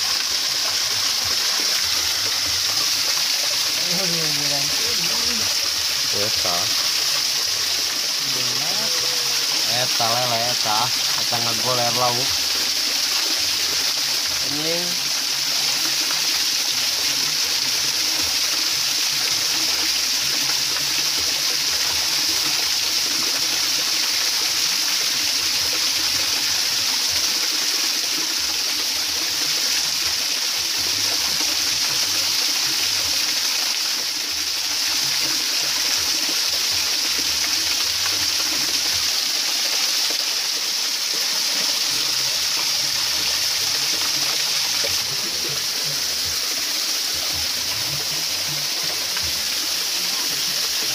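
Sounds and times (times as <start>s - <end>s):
stream water rushing over rocks: 0.0s - 50.9s.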